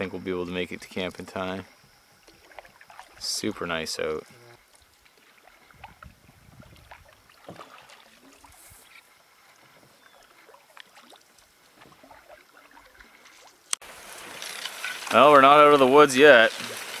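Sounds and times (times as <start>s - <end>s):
paddle splashes and drips: 1.0s - 3.6s, 4.2s - 17.0s.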